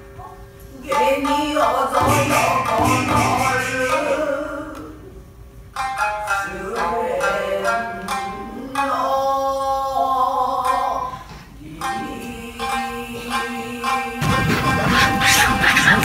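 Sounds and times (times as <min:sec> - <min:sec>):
singing: 0:00.7 - 0:05.2, 0:06.4 - 0:16.0.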